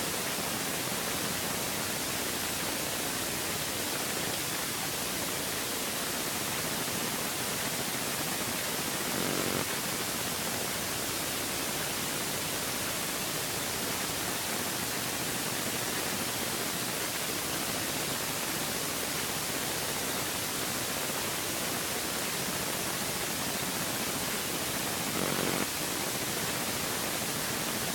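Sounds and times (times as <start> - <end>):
steady hiss: 0.0 - 27.9.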